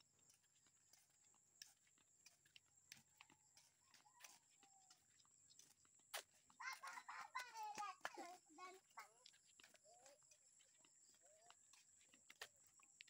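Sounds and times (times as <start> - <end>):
flip-flop footsteps on concrete: 0.0 - 13.0.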